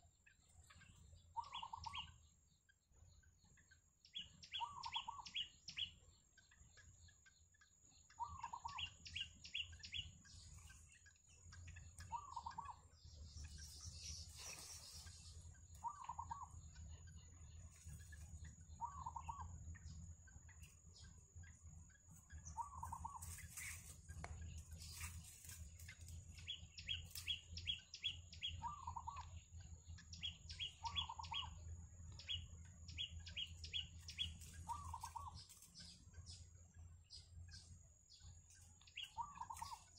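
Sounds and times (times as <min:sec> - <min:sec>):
faint bird calls and chirps: 0:00.0 - 0:39.9.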